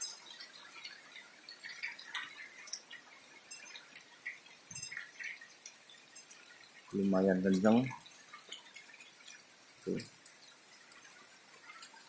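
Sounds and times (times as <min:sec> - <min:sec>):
rain hissing: 0:00.0 - 0:12.0
water drops dripping: 0:00.0 - 0:12.0.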